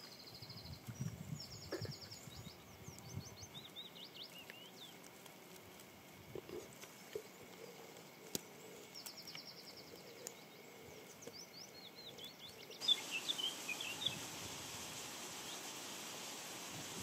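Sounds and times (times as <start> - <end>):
songbirds chirping and trilling: 0.0 - 14.4
background hiss: 0.0 - 17.0.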